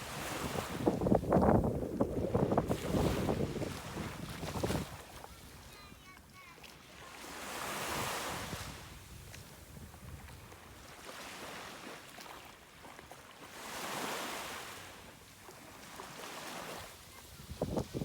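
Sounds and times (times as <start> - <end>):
sea waves washing onto beach: 0.0 - 18.0.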